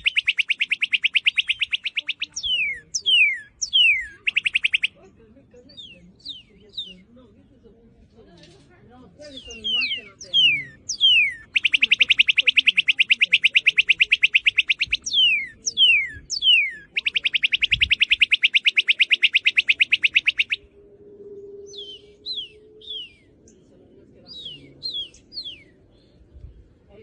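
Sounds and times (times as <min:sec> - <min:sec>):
bird singing whistles and trills: 0:00.0 - 0:05.0, 0:05.6 - 0:07.1, 0:09.3 - 0:23.7, 0:24.3 - 0:26.2.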